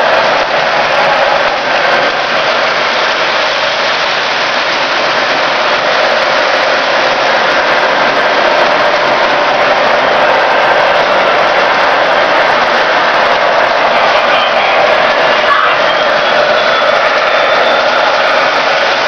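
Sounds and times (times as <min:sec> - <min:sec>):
model trains running on track: 0:00.0 - 0:19.0.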